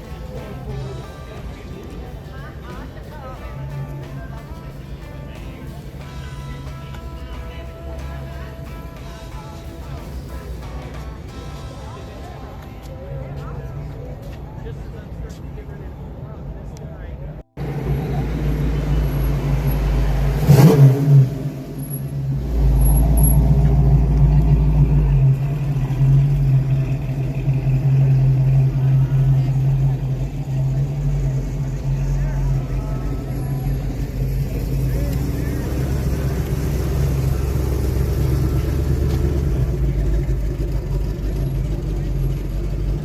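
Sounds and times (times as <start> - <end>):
car engine running: 0.0 - 15.0, 17.6 - 43.0.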